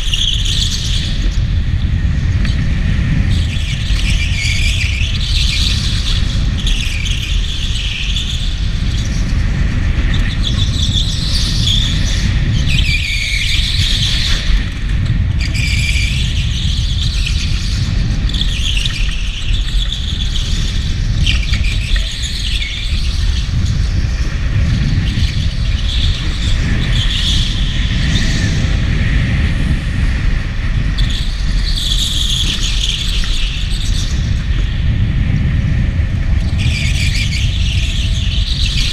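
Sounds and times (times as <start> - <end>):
low rumble of kart: 0.0 - 38.9
go-kart tyres squealing: 3.1 - 29.7, 30.3 - 34.9.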